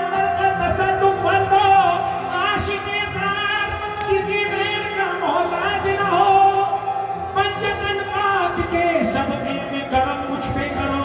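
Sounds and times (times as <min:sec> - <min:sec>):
harmonium tones: 0:00.0 - 0:11.0.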